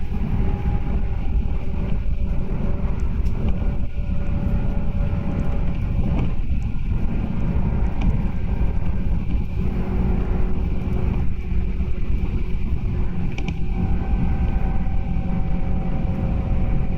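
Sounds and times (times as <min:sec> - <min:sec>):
faint steady hum: 0:00.0 - 0:16.9
train wheels rumbling on rail: 0:00.0 - 0:16.9.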